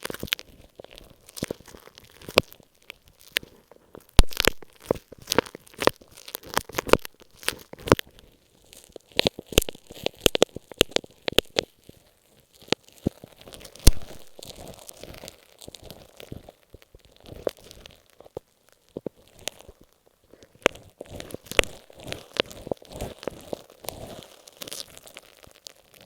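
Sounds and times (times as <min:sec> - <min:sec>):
soft rustling: 0:00.0 - 0:26.0
tape crinkling on microphone: 0:00.0 - 0:26.0.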